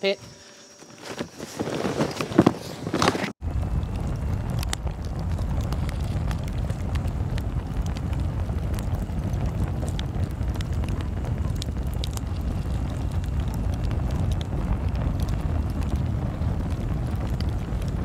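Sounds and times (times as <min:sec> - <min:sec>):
burning coals clicking and crackling: 0:03.3 - 0:18.0
steady low rumble: 0:03.3 - 0:18.0.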